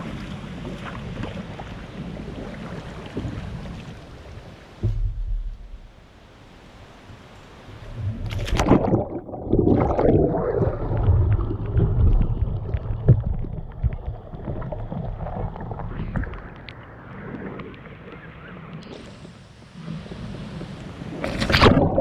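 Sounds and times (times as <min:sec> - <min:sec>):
kayak splash: 0:00.0 - 0:22.0
muffled rushing water: 0:00.0 - 0:22.0.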